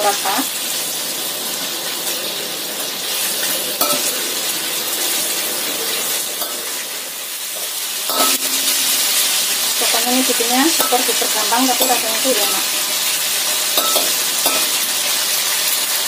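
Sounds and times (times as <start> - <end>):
chicken sizzling in hot oil: 0.0 - 16.0
metal spatula scraping a wok: 2.8 - 15.8.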